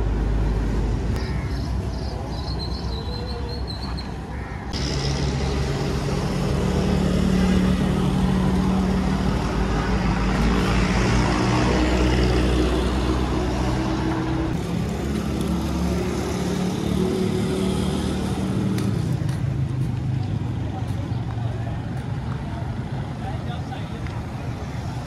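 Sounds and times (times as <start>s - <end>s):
road traffic engines droning: 0.0s - 25.0s.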